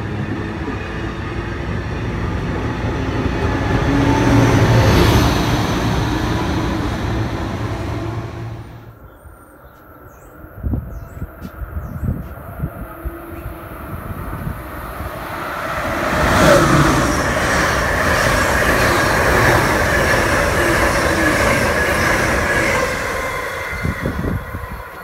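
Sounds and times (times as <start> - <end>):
passenger train passing: 0.0 - 25.0.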